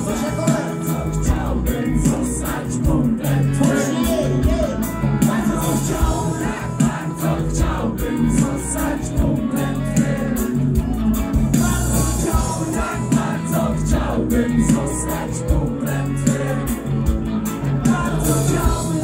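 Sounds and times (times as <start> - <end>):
live rock band: 0.0 - 19.0
steady drumbeat: 0.0 - 19.0.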